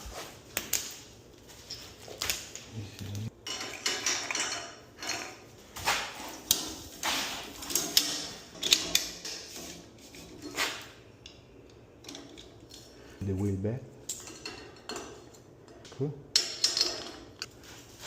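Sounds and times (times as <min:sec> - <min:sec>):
metal tools clinking and scraping: 0:01.5 - 0:02.3, 0:03.4 - 0:17.6.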